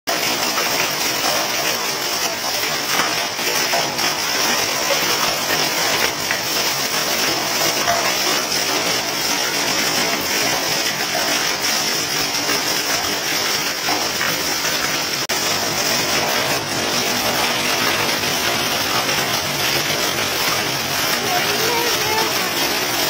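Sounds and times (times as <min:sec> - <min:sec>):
heavy rain with hail on pavement: 0:00.1 - 0:23.0.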